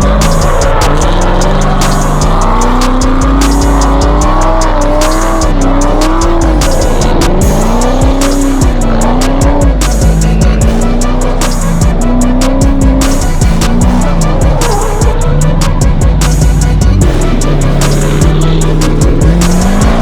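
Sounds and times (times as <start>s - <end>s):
background music with steady beat: 0.0s - 20.0s
car engine revving: 0.0s - 20.0s.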